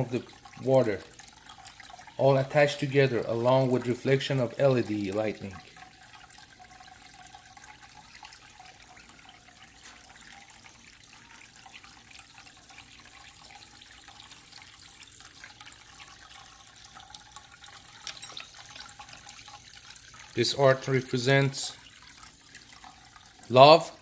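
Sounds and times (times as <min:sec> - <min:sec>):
fountain water trickling: 0:00.0 - 0:24.0.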